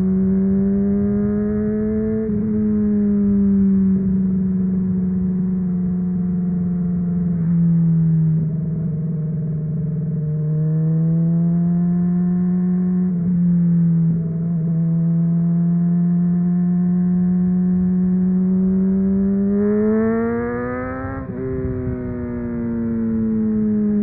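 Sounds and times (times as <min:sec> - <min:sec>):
motorcycle engine cruising: 0:00.0 - 0:24.0.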